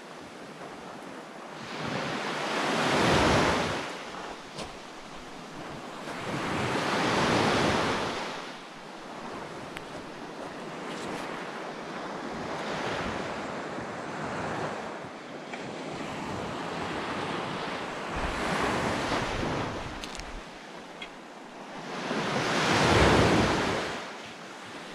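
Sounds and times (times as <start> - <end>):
small waves breaking on beach: 0.0 - 24.9.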